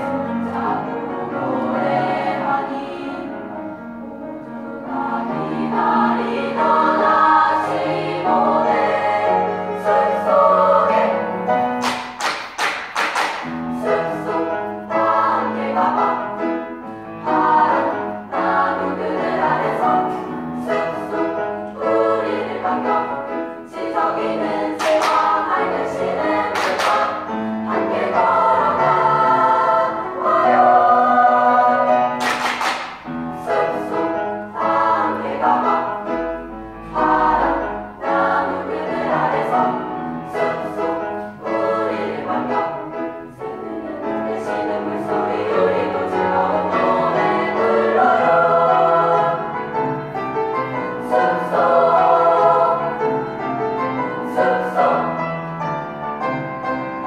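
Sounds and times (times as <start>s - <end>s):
girls choir singing: 0.0s - 55.4s.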